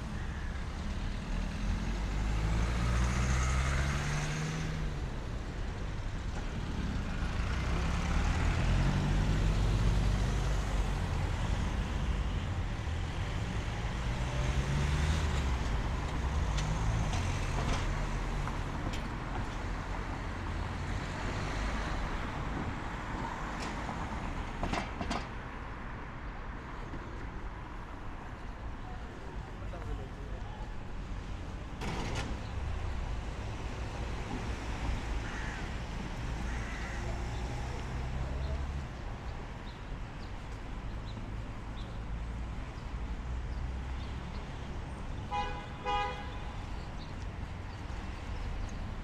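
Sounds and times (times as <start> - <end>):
car and van engines passing: 0.0 - 49.0.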